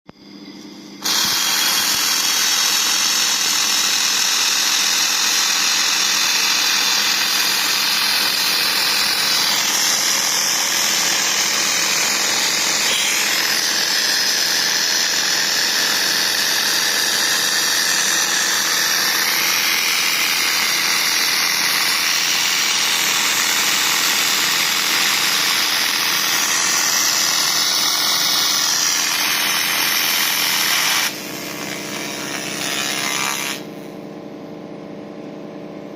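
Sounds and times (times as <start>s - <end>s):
faint machine hum: 0.1s - 35.9s
loud steady hiss: 0.2s - 33.9s.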